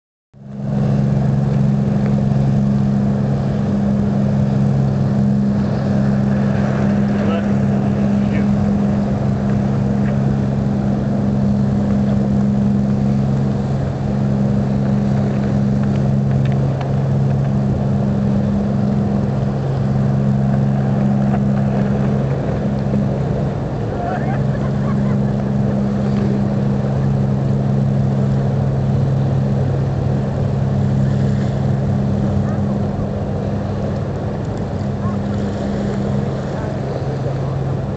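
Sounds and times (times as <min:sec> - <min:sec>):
ship engine droning: 0:00.4 - 0:37.9.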